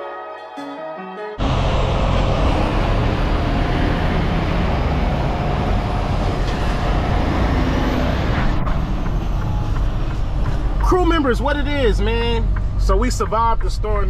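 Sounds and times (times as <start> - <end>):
truck engine and road noise: 1.4 - 14.0.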